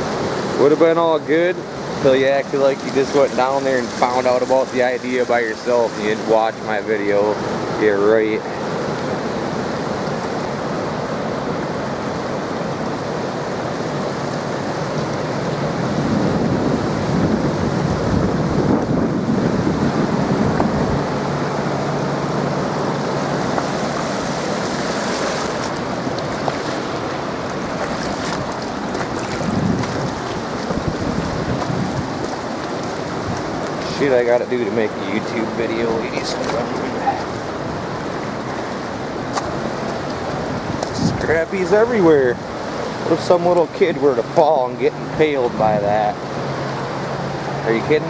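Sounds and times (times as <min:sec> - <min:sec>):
water rushing: 0:00.0 - 0:48.0
wind buffeting microphone: 0:00.0 - 0:48.0.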